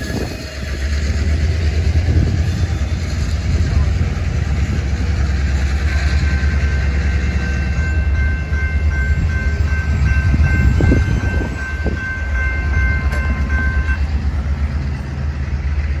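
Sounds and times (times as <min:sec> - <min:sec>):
railroad crossing bell ringing: 0:00.0 - 0:15.6.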